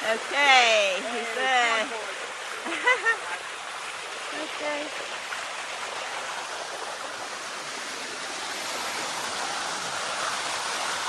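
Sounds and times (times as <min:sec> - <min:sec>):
water rushing over rock: 0:00.0 - 0:11.0.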